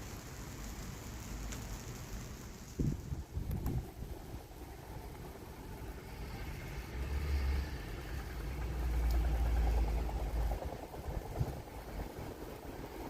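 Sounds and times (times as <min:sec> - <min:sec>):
train engine rumble: 0:00.0 - 0:13.0.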